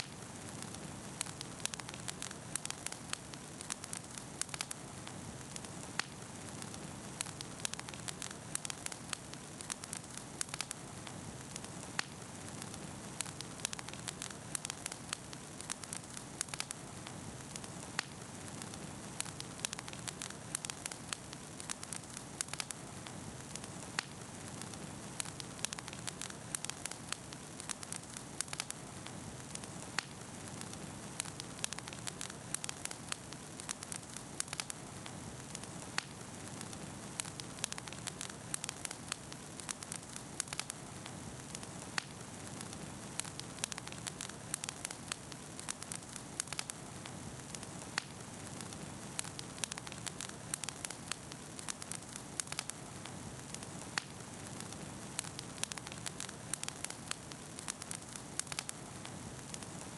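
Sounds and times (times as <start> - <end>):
bonfire crackling and hissing: 0.0 - 59.9.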